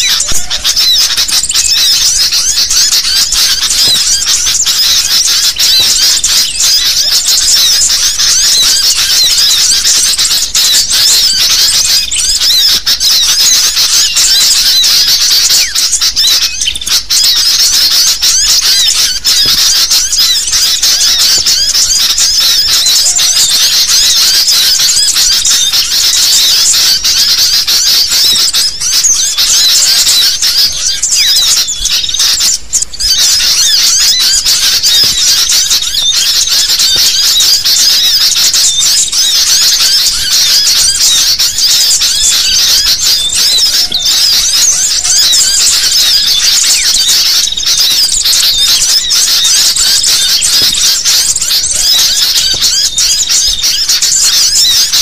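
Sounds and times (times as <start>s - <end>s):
chorus of bird calls: 0.0s - 55.0s.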